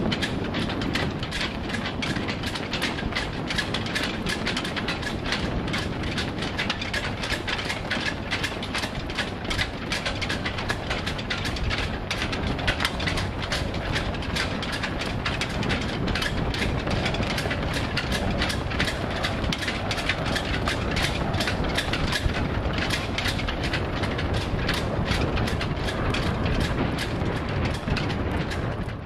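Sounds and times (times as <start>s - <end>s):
vehicle rumbling: 0.0s - 29.0s
rattling clicks: 0.1s - 29.0s.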